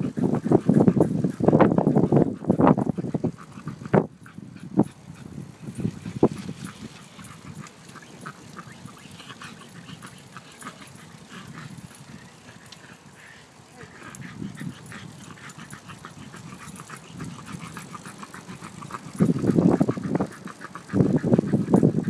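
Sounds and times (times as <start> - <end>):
faint ticks: 2.6 - 22.0.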